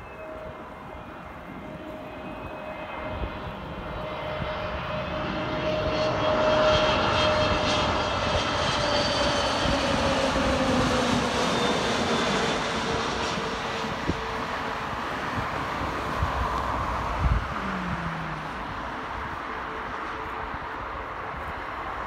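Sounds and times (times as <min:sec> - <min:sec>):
jet whining tone: 0:00.0 - 0:21.2
jet engines flying past: 0:00.0 - 0:22.0.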